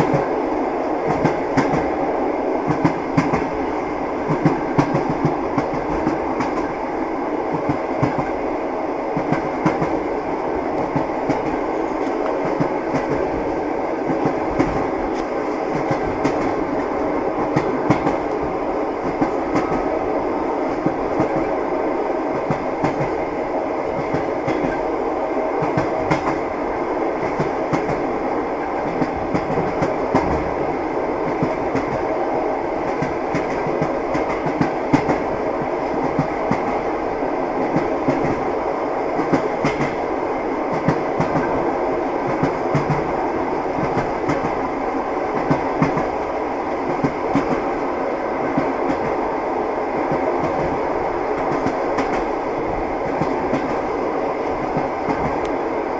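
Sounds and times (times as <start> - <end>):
train wheels clattering on rails: 0.0 - 2.0, 2.6 - 8.5, 9.1 - 55.6.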